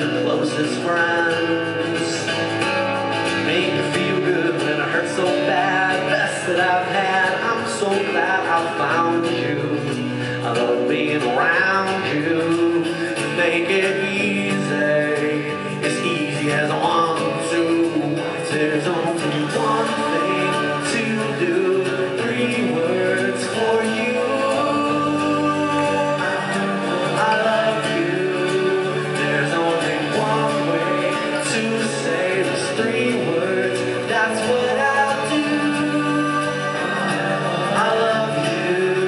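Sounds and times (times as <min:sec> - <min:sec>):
man singing: 0:00.0 - 0:39.0
strummed acoustic guitars: 0:00.0 - 0:39.0.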